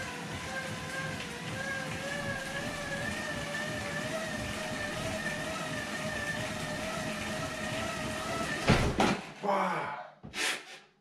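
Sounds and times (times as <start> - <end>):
bike tyres whirring on rollers: 0.0 - 9.0.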